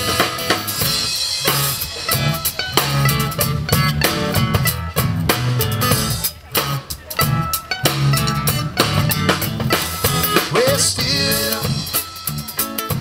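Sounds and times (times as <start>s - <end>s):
bass guitar: 0.0s - 13.0s
drum kit beat: 0.0s - 13.0s
guitar: 0.0s - 13.0s.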